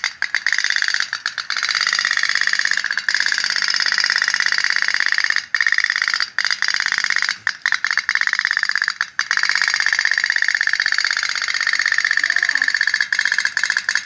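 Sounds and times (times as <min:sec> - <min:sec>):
toy boat putt-putt: 0:00.0 - 0:14.0.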